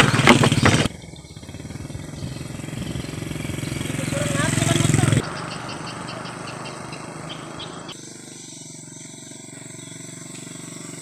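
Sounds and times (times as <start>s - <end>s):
faint motorcycle engine hum: 0.0s - 11.0s
small motorcycle engine: 0.0s - 11.0s.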